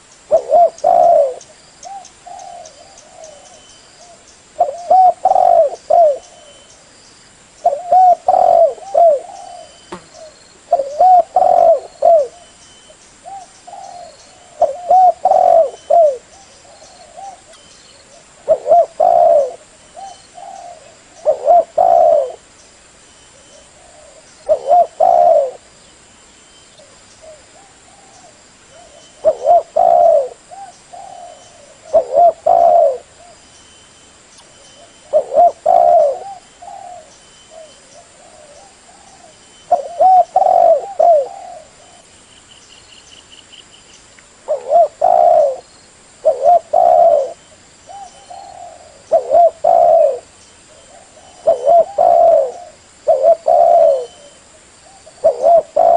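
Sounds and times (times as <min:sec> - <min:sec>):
dove cooing: 0:00.0 - 0:06.7, 0:07.6 - 0:12.5, 0:13.2 - 0:22.5, 0:23.4 - 0:25.7, 0:26.8 - 0:33.4, 0:34.8 - 0:42.1, 0:44.5 - 0:55.9.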